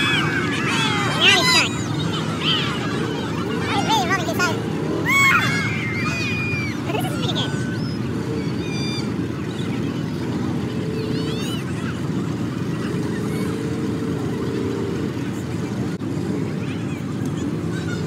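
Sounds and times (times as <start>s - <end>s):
faint crowd voices: 0.0s - 18.0s
off-road vehicle engines rumbling: 0.0s - 18.0s.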